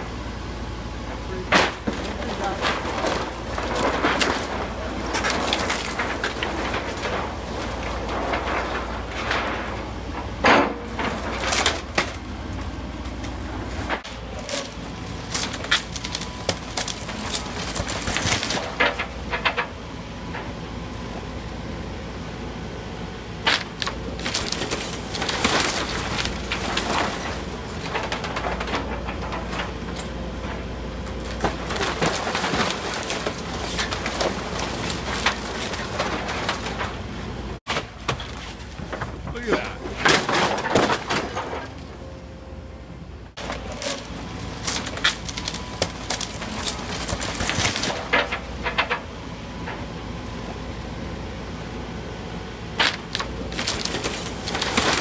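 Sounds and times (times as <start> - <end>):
material breaking and crashing: 1.2 - 19.7, 23.4 - 42.2, 43.3 - 49.1, 52.8 - 55.0.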